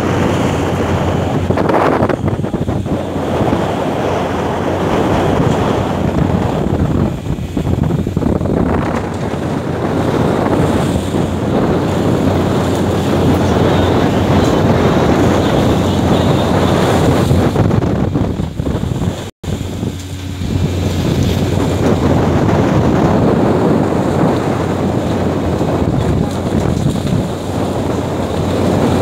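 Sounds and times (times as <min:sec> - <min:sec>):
boat engine low hum: 0:00.0 - 0:29.0
waves breaking along hull: 0:00.0 - 0:29.0
wind buffeting microphone: 0:00.0 - 0:29.0.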